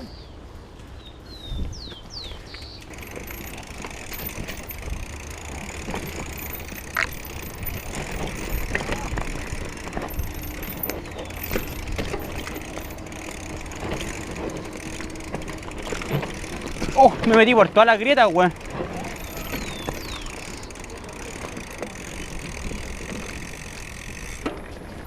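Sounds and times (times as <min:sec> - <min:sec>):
bike tyres crunching over dirt: 0:01.8 - 0:25.0
bike chain and frame rattling: 0:02.8 - 0:25.0.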